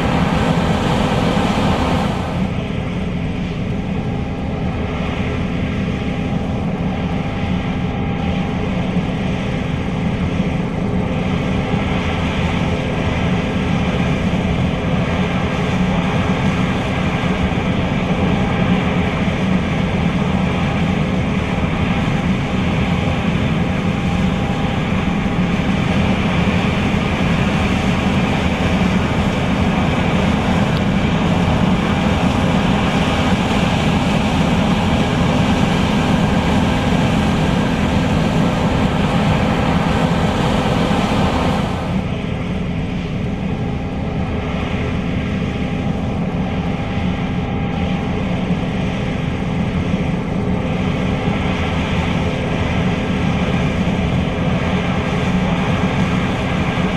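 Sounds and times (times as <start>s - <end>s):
combine harvester drone: 0.0s - 56.9s.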